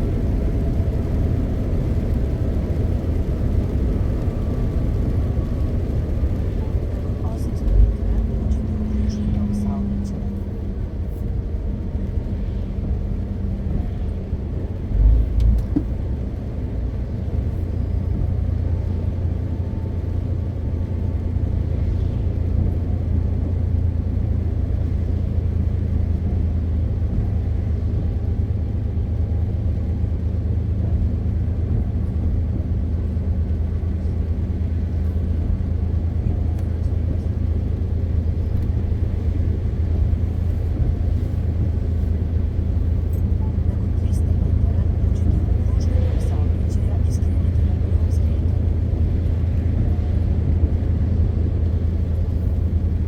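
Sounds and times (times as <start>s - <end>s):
truck diesel engine rumbling: 0.0s - 53.0s.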